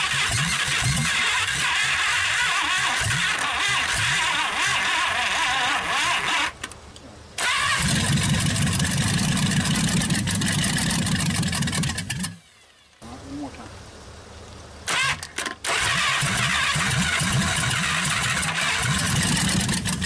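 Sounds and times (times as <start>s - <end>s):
engine cranking by starter: 0.0s - 6.8s, 7.4s - 12.8s, 14.8s - 20.0s.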